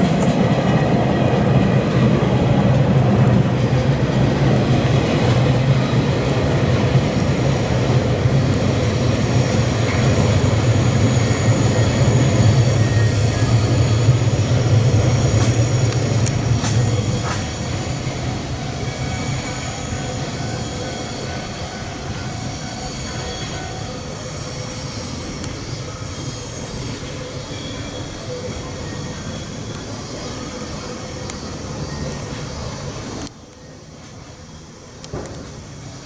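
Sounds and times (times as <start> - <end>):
freight train rolling past: 0.0 - 36.0.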